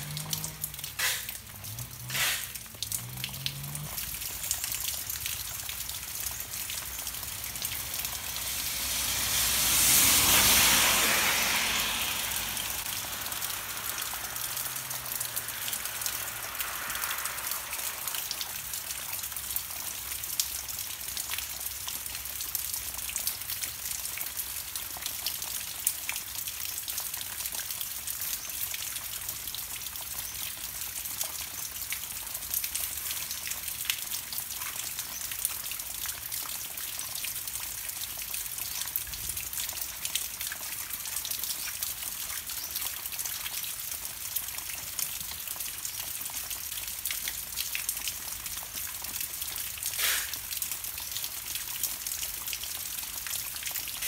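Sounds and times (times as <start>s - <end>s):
rain falling on leaves: 0.0s - 54.0s
raindrops ticking: 0.0s - 54.0s.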